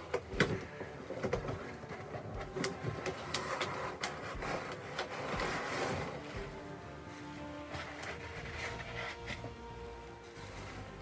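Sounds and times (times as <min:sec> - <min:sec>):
bubble wrap and cardboard crinkling: 0:00.0 - 0:11.0.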